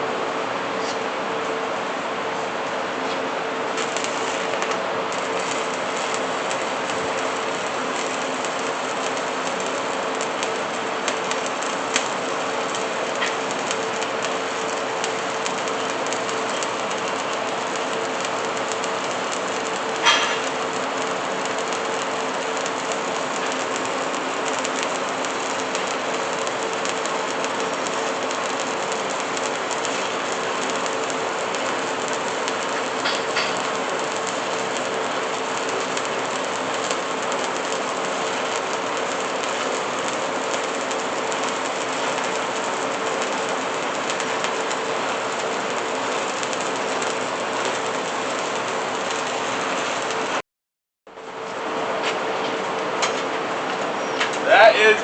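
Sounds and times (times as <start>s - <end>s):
steady hum: 0.0s - 50.4s
welding arc crackling and hissing: 2.6s - 50.4s, 54.2s - 55.0s.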